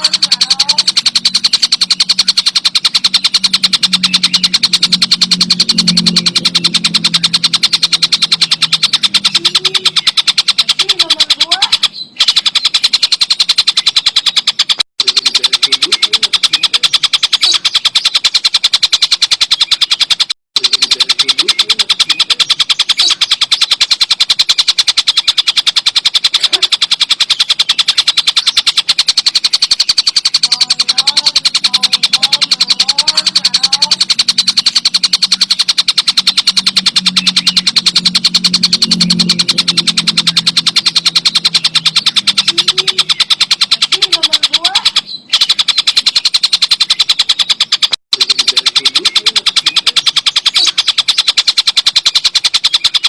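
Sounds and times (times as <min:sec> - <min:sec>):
kingfisher rattling chatter: 0:00.0 - 0:53.0.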